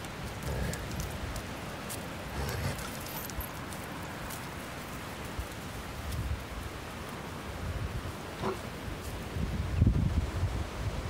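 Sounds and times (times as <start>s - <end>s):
puppy paws pattering on tarmac: 0.0s - 9.4s.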